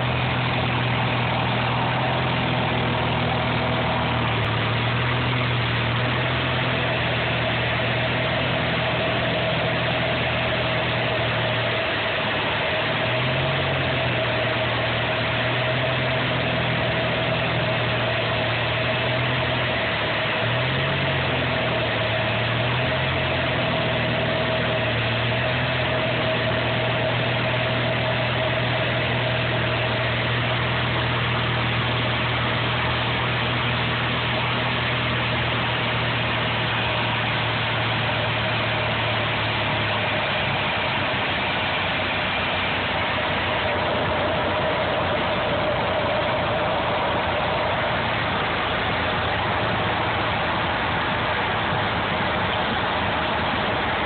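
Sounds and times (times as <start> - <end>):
aircraft engine and propeller droning: 0.0 - 54.0.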